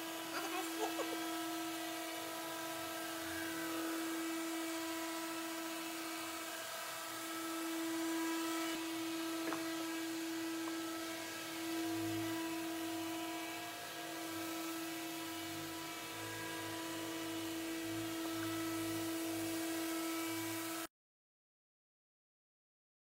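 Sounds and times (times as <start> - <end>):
orbital sander whining: 0.0 - 20.9.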